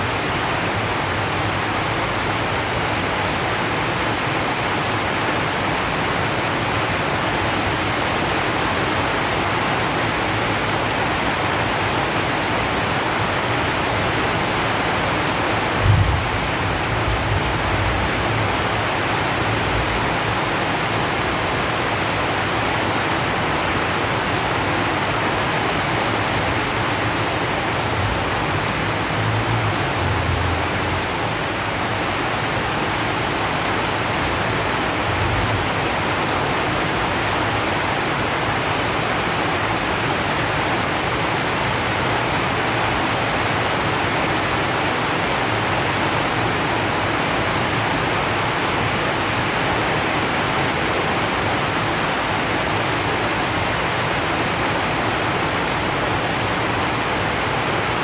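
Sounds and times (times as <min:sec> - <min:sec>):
rain drumming on a metal roof: 0:00.0 - 0:58.0.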